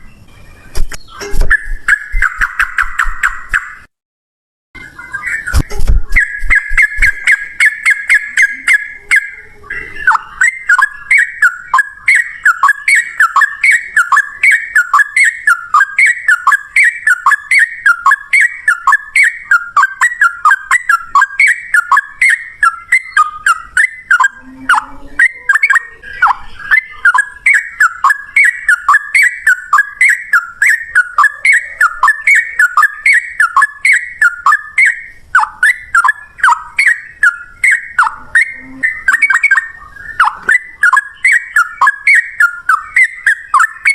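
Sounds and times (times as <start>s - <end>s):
bird chirping song: 0.0s - 3.9s, 4.8s - 43.9s.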